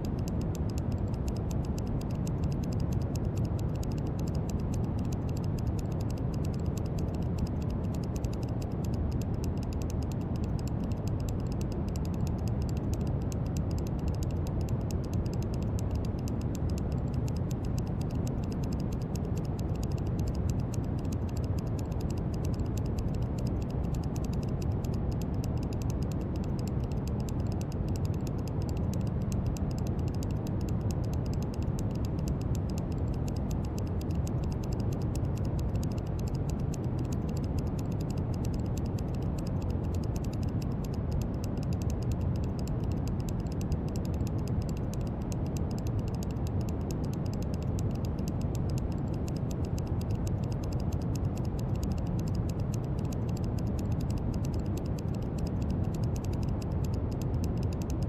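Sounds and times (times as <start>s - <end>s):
faint fast crackle of clicks: 0.0s - 58.0s.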